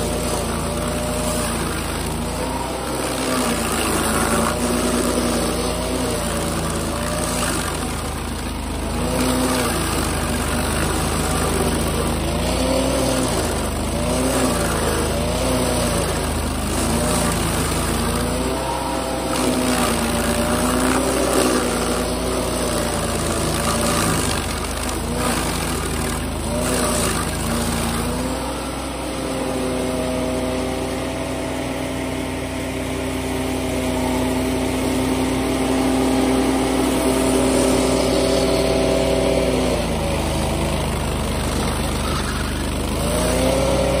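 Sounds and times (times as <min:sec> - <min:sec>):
stump grinder engine running: 0:00.0 - 0:44.0
wheel grinding wood: 0:00.0 - 0:44.0.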